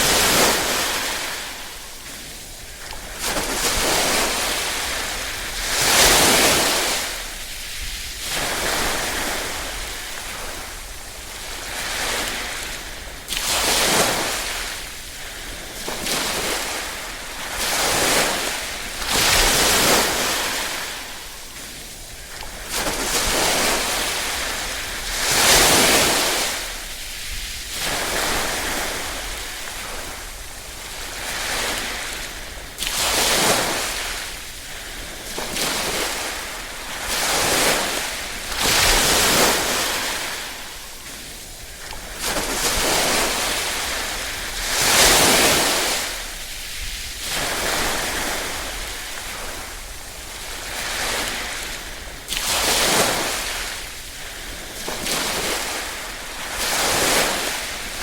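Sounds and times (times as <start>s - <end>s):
small waves lapping on shore: 0.0s - 58.0s.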